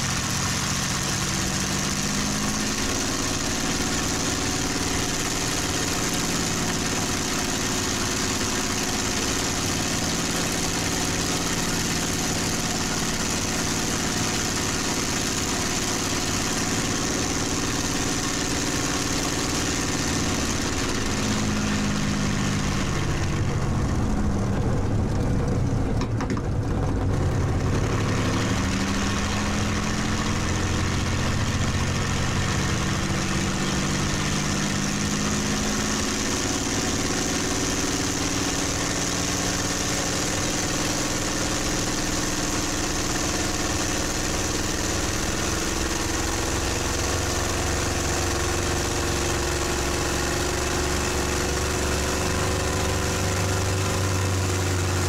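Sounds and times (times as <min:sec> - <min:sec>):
aircraft engine running: 0:00.0 - 0:55.0.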